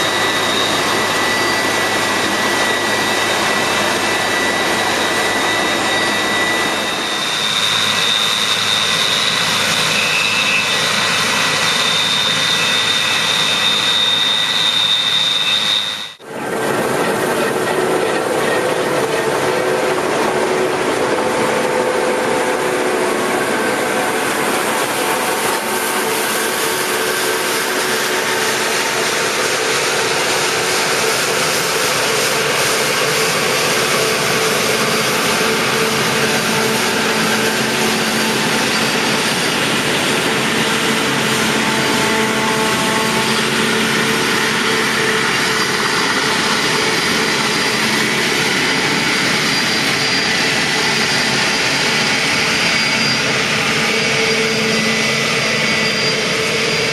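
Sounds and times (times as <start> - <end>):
combine harvester machinery din: 0.0 - 56.9.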